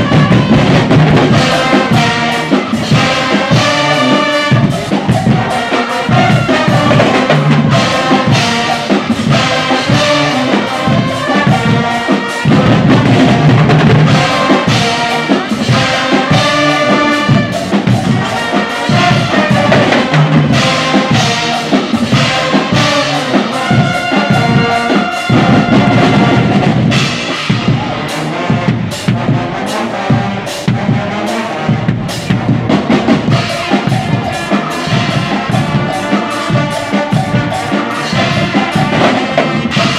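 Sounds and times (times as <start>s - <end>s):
brass band playing: 0.0s - 39.9s
driving drum beat: 0.0s - 39.9s.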